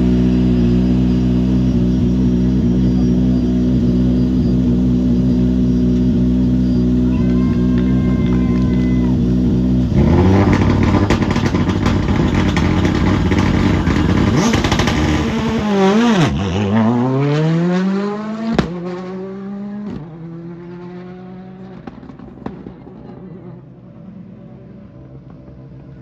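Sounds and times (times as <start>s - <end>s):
rally car engine accelerating: 0.0s - 26.0s.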